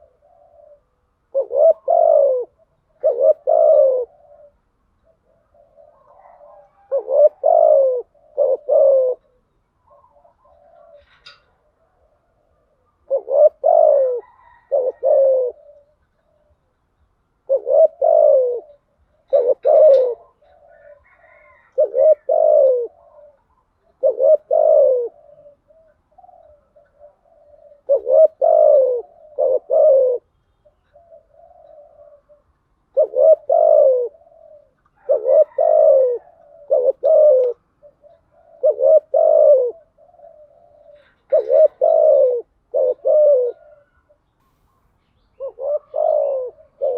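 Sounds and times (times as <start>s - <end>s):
dove cooing: 0.0s - 46.9s
soft humming dove notes: 0.0s - 46.9s.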